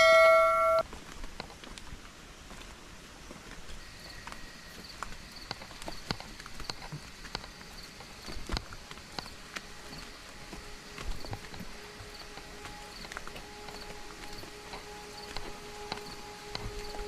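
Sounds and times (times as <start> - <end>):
footsteps crunching on a trail: 0.8 - 17.0.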